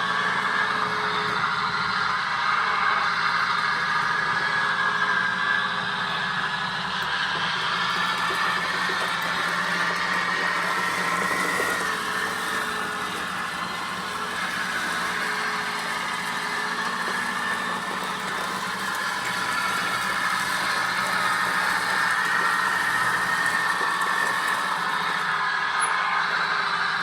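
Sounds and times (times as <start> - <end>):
toy tank engine whine: 0.0 - 27.0.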